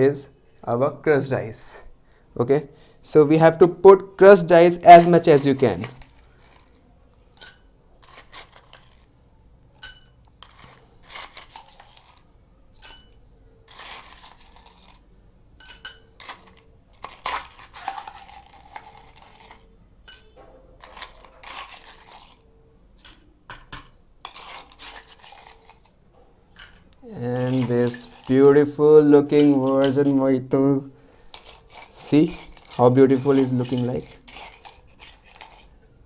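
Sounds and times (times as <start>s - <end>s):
spoon scraping ice in metal tin: 4.7s - 9.2s, 9.8s - 30.5s, 31.3s - 35.8s.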